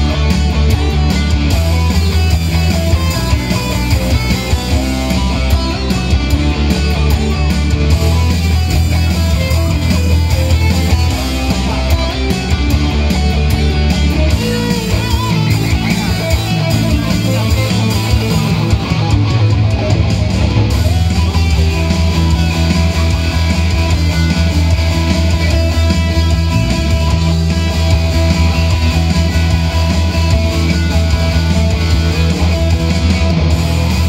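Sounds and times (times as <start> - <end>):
electric guitar playing: 0.0 - 34.0.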